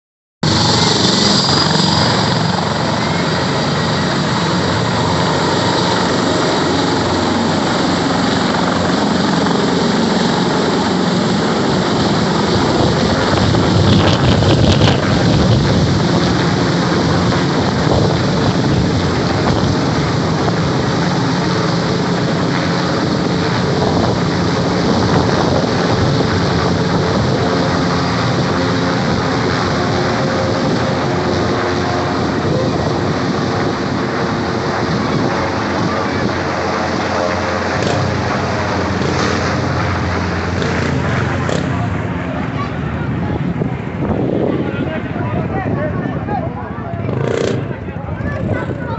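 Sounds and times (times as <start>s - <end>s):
helicopter rotor and engines: 0.4s - 48.9s.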